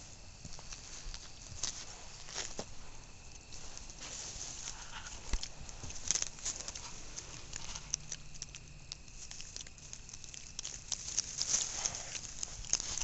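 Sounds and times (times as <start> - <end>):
pig rooting through mulch: 0.0 - 13.0.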